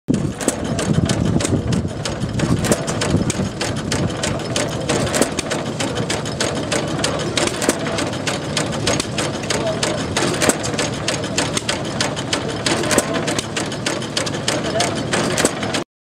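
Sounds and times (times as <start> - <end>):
clatter of mechanical clicks: 0.1 - 15.8
gas engines chugging: 0.1 - 15.8.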